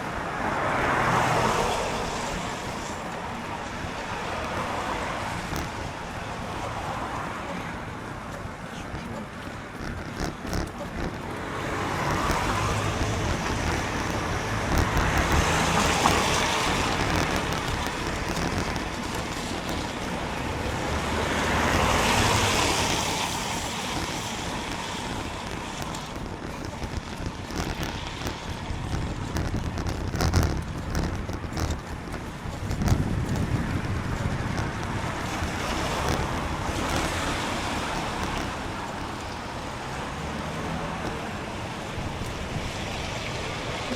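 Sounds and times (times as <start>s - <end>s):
cars passing on wet road: 0.0s - 43.9s
wind noise on microphone: 0.0s - 43.9s.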